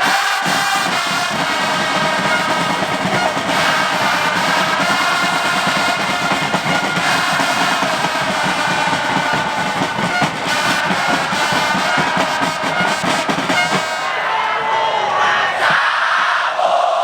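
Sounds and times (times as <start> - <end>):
drums beating: 0.0 - 14.8
football crowd singing chant: 0.0 - 17.0.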